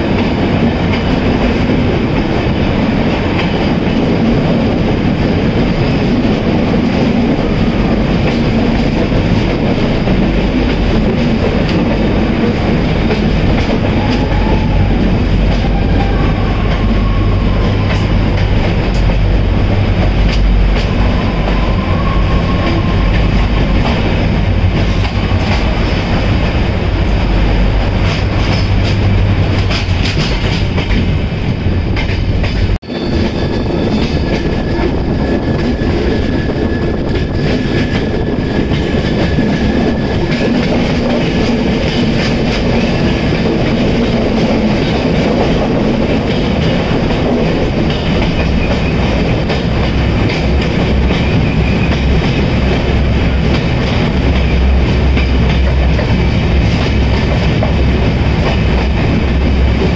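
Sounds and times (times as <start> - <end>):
train rumble and wheel clatter: 0.0 - 59.9.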